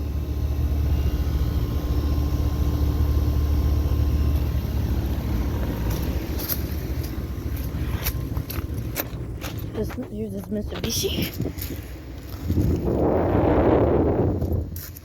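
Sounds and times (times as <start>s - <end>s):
air conditioner compressor hum: 0.0s - 15.0s.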